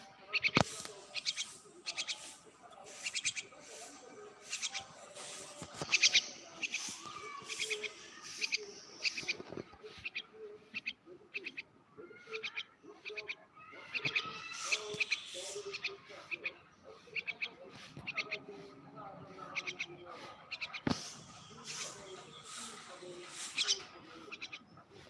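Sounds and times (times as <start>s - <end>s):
bird chirping: 0.1s - 24.8s.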